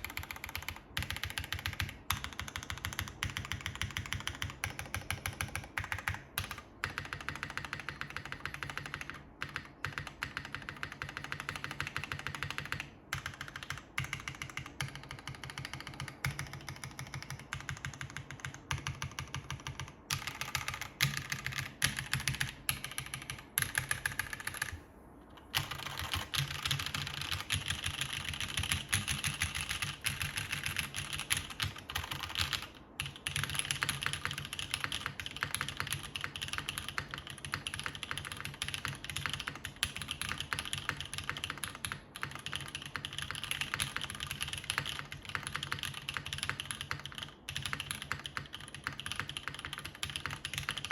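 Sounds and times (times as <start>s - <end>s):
mechanical keyboard typing: 0.0s - 24.8s, 25.4s - 50.9s.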